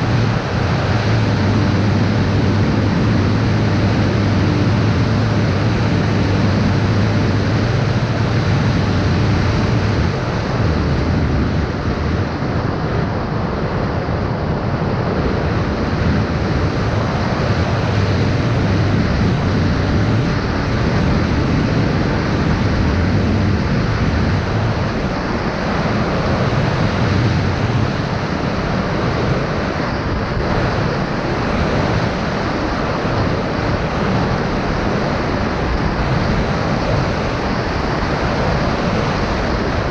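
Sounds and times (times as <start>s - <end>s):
drone of electric motors and propellers: 0.0s - 39.9s
wind rushing on microphone: 0.0s - 39.9s.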